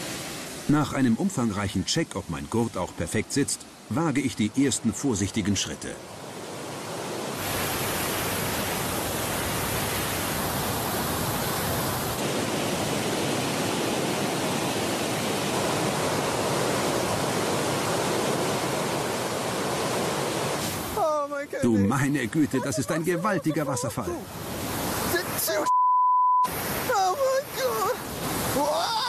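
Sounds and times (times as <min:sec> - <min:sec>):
waterfall roaring: 0:00.0 - 0:25.7, 0:26.5 - 0:29.0.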